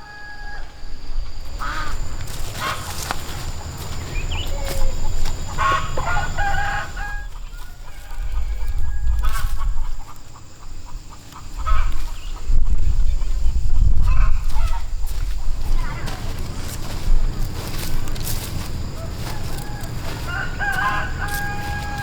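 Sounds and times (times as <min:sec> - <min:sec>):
chickens clucking: 0:00.0 - 0:22.0
steady low rumble: 0:00.7 - 0:22.0.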